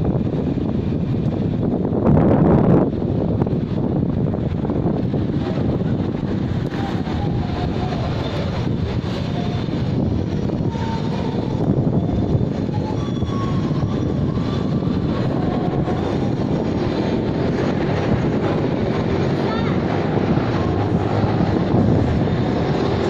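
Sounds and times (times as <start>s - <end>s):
road noise: 0.0s - 23.0s
wind rush on microphone: 0.0s - 23.0s.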